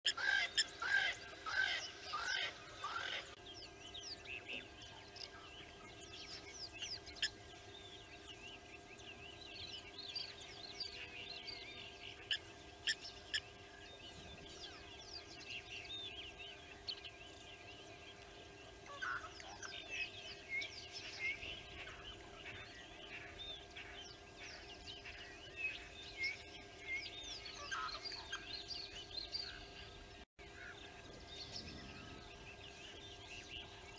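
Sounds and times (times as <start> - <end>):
birds chirping in chorus: 0.1 - 33.9
faint steady hum: 0.1 - 33.9.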